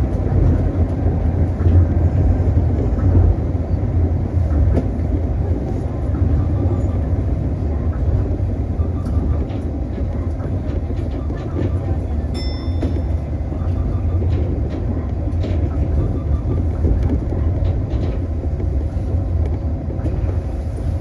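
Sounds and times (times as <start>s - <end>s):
monorail low rumble: 0.0s - 21.0s.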